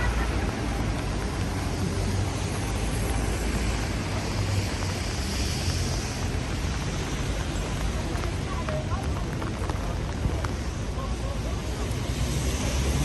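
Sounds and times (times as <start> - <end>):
traffic rumble on wet street: 0.0 - 13.0.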